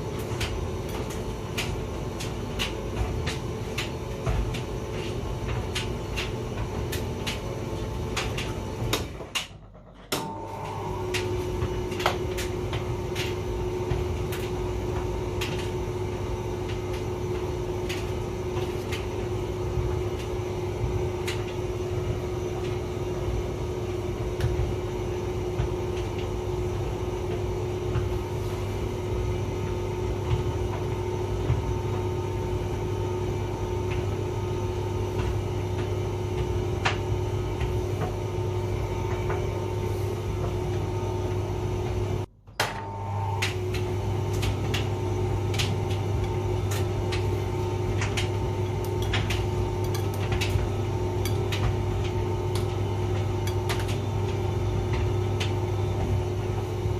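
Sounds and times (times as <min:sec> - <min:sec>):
clicks and knocks from dryer drum: 0:00.0 - 0:56.9
tumble dryer motor hum: 0:00.0 - 0:56.9.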